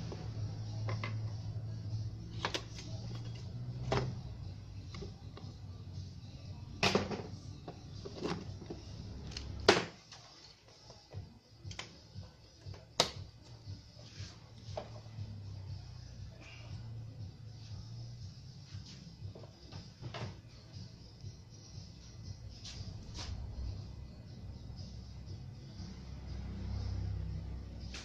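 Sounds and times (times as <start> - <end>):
steady low hum: 0.0 - 9.7, 11.4 - 28.0.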